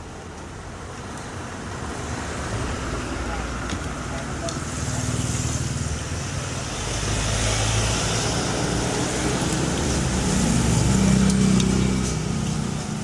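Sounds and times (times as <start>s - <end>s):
vehicle engine humming: 0.1s - 13.0s.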